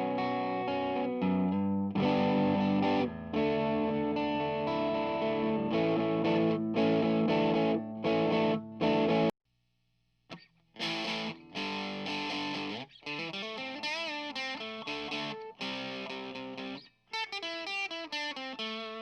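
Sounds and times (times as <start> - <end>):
distorted electric guitar chords: 0.0 - 9.3, 10.8 - 17.4
electric guitar single notes: 0.0 - 9.3, 10.8 - 19.0.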